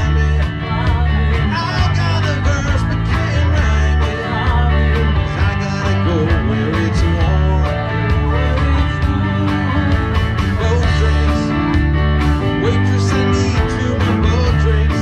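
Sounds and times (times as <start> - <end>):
bass line: 0.0 - 15.0
drum kit beat: 0.0 - 15.0
electric guitars: 0.0 - 15.0.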